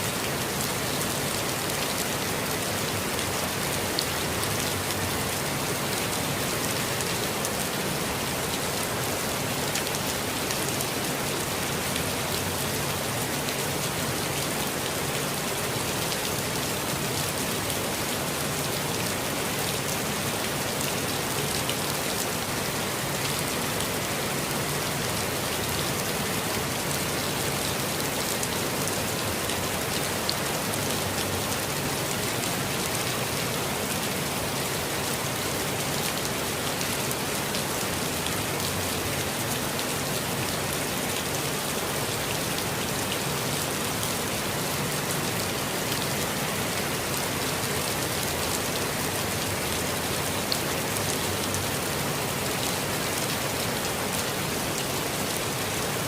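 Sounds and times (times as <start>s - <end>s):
rain pattering on foliage: 0.0s - 56.0s.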